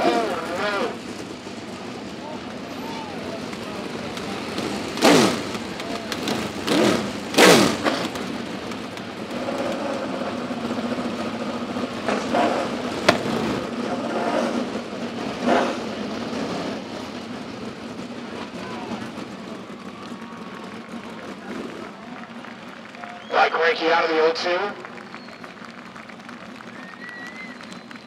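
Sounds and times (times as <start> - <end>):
engine idling: 0.0 - 28.0
race car engine revving: 0.0 - 28.0.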